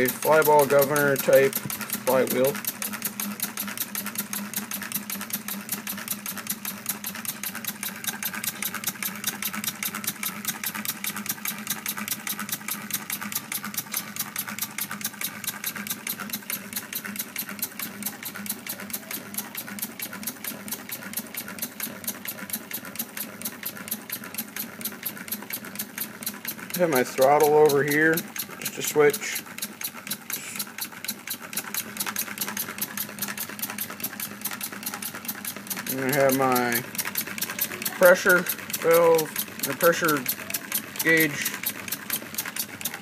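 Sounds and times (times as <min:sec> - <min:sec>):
air engine clicking and puffing: 0:00.0 - 0:43.0.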